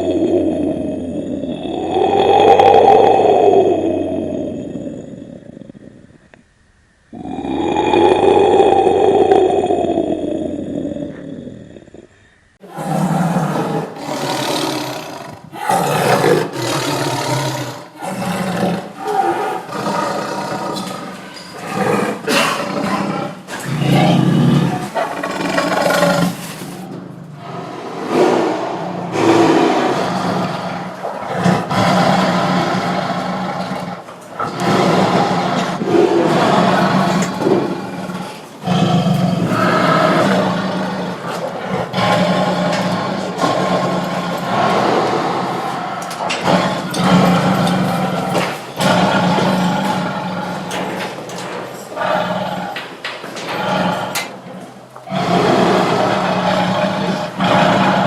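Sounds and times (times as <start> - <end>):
tiger roaring: 0.0 - 6.3, 7.1 - 58.0.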